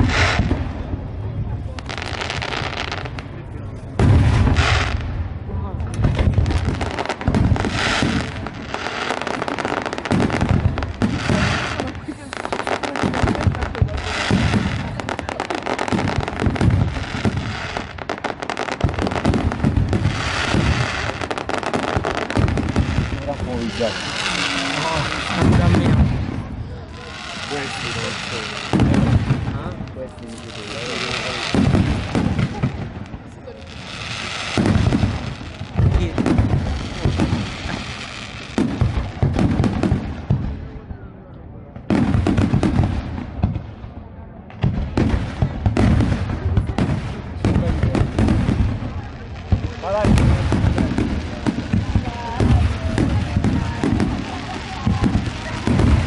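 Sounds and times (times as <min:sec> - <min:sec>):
deep firework booms: 0:00.0 - 0:56.0
fireworks bangs and crackling: 0:00.0 - 0:56.0.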